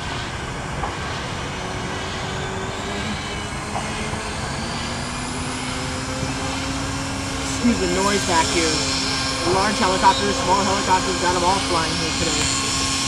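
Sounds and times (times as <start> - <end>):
model aircraft engines droning: 0.0 - 13.0.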